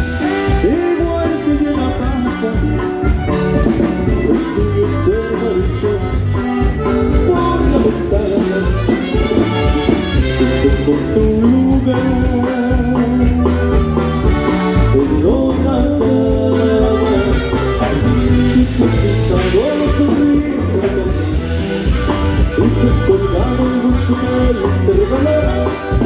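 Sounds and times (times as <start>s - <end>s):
band with saxophone playing: 0.0s - 26.0s.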